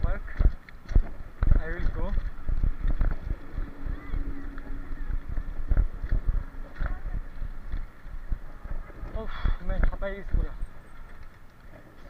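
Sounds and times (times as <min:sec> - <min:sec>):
bicycle rattling on gravel: 0:00.0 - 0:12.0
wind rumble on microphone: 0:00.0 - 0:12.0.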